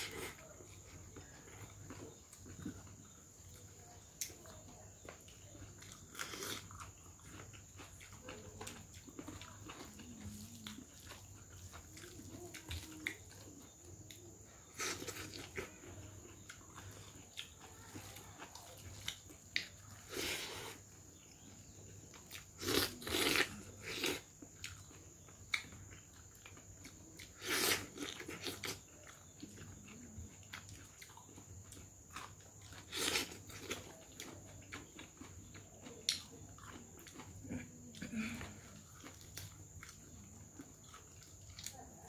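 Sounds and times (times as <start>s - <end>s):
person chewing with wet smacks: 0.0s - 20.2s, 20.8s - 42.0s.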